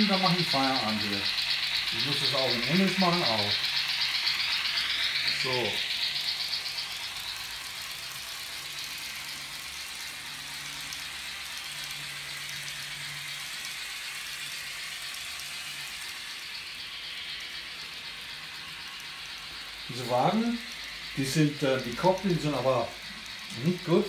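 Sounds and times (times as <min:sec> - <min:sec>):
model train wheels rattling: 0:00.0 - 0:24.0.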